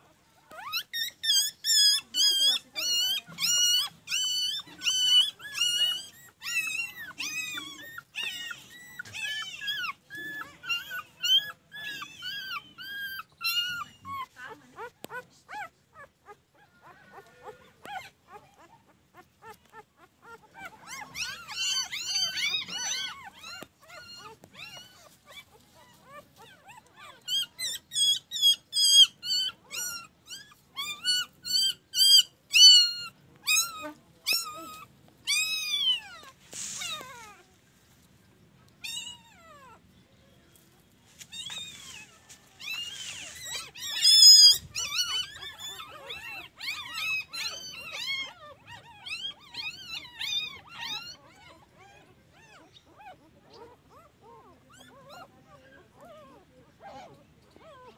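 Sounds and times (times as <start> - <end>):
puppy whining and yelping: 0.0 - 40.0, 40.7 - 57.9.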